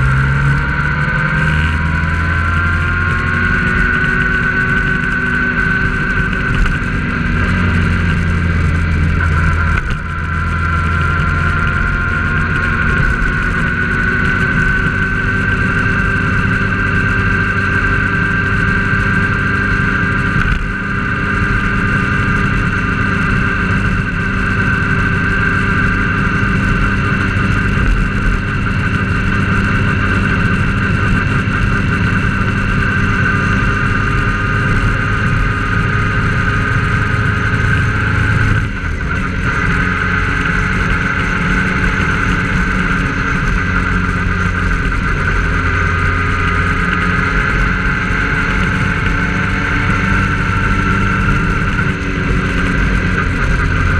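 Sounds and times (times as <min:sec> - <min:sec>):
engine drone: 0:00.0 - 0:53.9
steady high whine: 0:00.0 - 0:53.9
tyre and road noise: 0:00.0 - 0:53.9.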